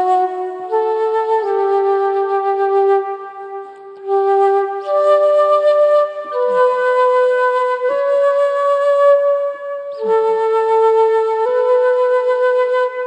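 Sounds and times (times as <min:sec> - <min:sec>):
slow music with held notes: 0:00.0 - 0:13.0.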